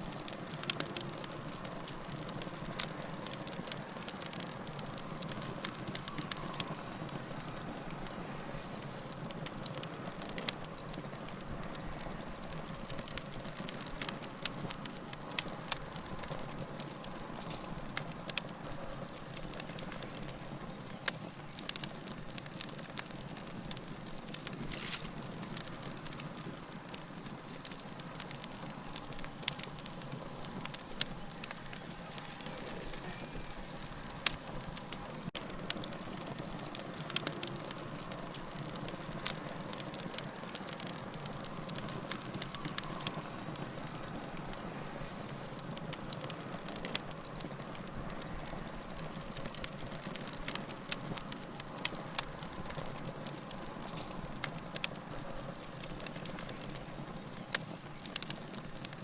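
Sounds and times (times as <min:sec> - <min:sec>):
fire pops and crackles: 0:00.0 - 0:59.0
wood fire burning: 0:00.0 - 0:59.0.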